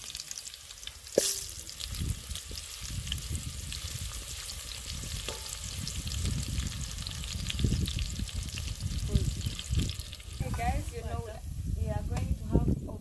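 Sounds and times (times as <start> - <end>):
onions sizzling in oil: 0.0 - 12.7.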